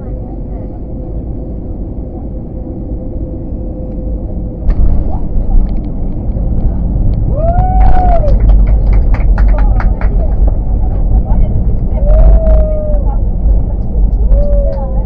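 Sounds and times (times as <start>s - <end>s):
jet engine and airflow drone: 0.0s - 15.0s
runway rumble: 0.0s - 15.0s.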